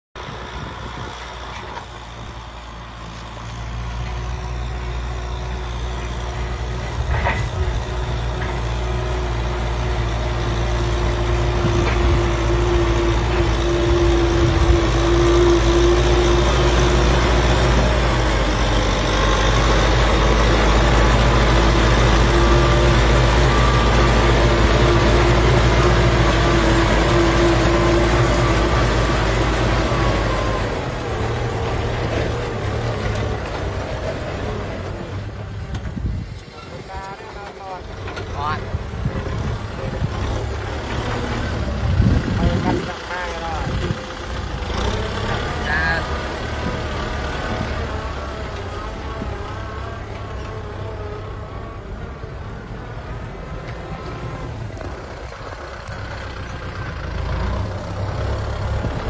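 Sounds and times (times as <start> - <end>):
tractor diesel engine under load: 0.1 - 59.0.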